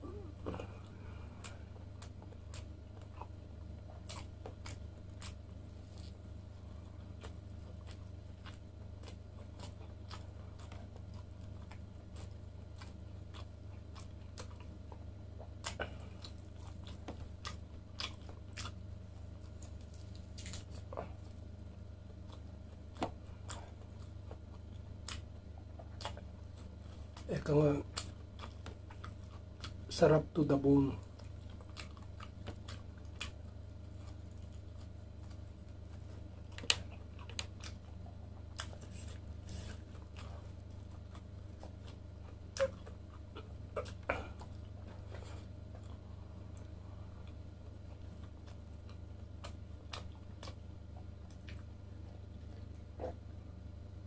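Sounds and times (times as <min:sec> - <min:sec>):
man chewing meat: 0:00.0 - 0:54.0
steady low hum: 0:00.0 - 0:54.0
mouth clicks and crunches: 0:00.1 - 0:53.4.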